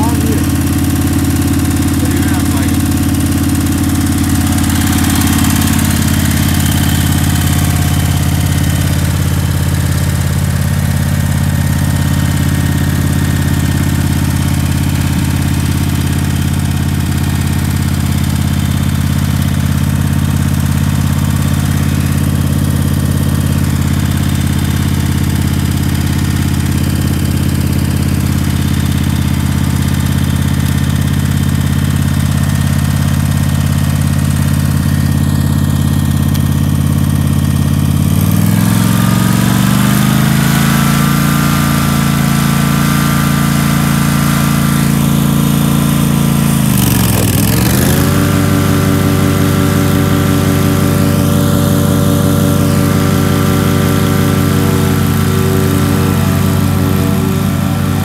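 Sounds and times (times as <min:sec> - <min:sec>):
mower engine idling: 0:00.0 - 0:58.0.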